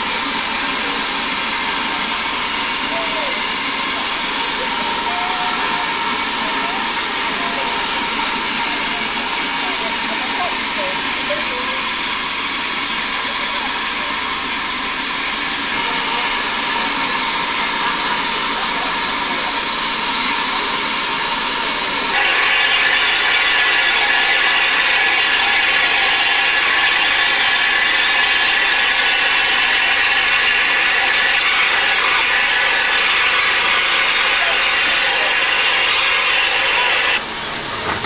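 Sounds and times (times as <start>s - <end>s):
steam locomotive hissing: 0.0s - 38.0s.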